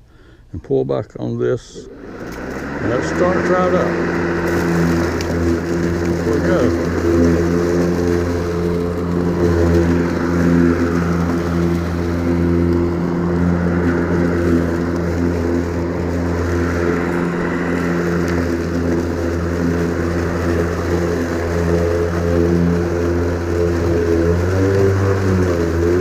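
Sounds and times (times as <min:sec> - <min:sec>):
electric lawn mower running: 0:01.8 - 0:26.0.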